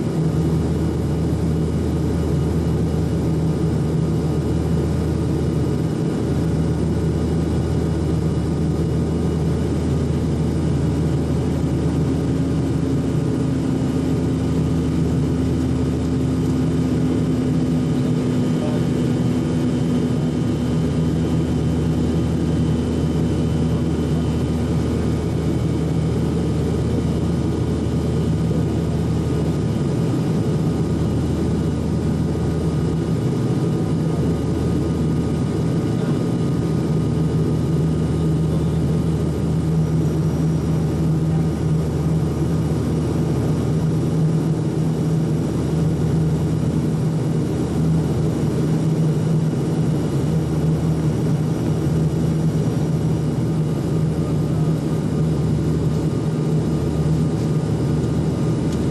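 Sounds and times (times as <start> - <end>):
airliner engines droning in cabin: 0.0 - 58.9.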